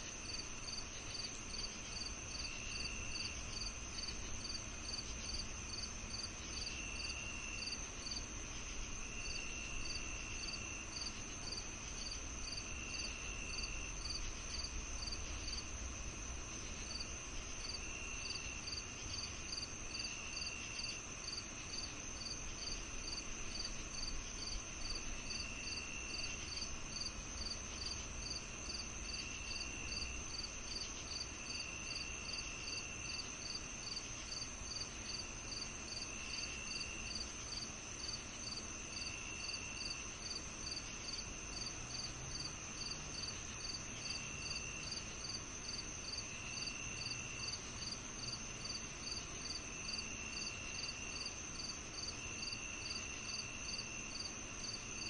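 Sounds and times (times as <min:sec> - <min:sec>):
cricket chirping: 0:00.0 - 0:55.0
intermittent low insect trill: 0:00.0 - 0:55.0
steady high insect trill: 0:00.0 - 0:55.0.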